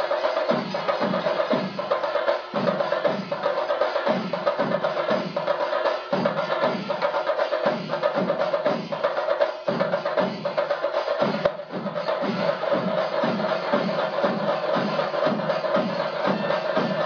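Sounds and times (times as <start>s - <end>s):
fast drum beat: 0.0s - 17.0s.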